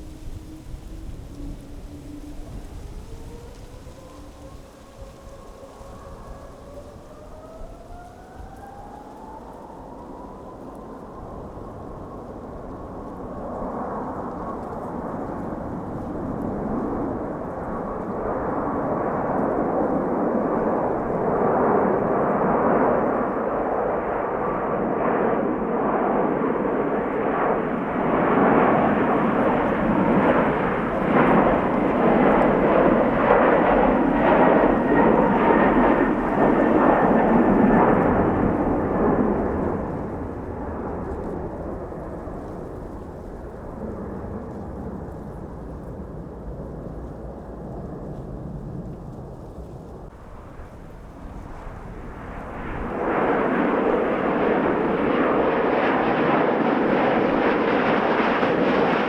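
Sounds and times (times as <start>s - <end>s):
faint jet engine whine: 0.0s - 59.0s
jet airliner passing: 0.0s - 59.0s.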